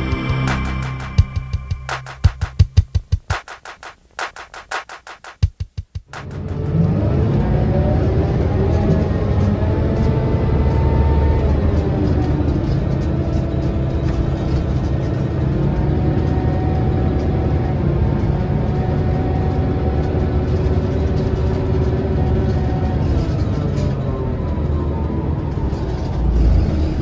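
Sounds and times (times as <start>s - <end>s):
bus engine drone: 0.0s - 1.9s, 6.2s - 27.0s.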